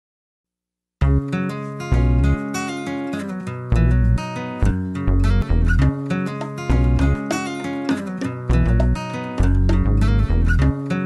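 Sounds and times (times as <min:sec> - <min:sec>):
guitar over deep bass: 0:01.0 - 0:11.0.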